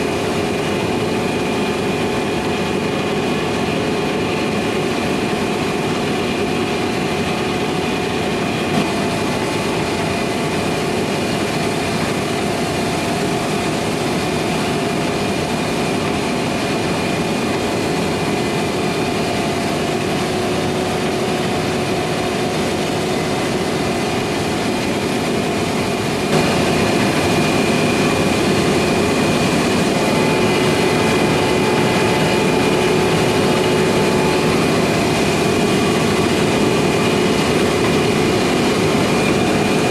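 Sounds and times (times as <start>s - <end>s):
constant whine: 0.0s - 39.9s
heavy machinery engine running: 0.0s - 39.9s.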